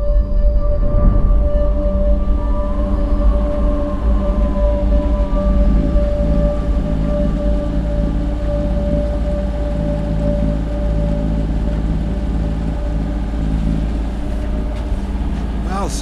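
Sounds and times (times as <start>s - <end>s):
boat engine droning: 0.0s - 16.0s
sustained steady tone: 0.0s - 16.0s.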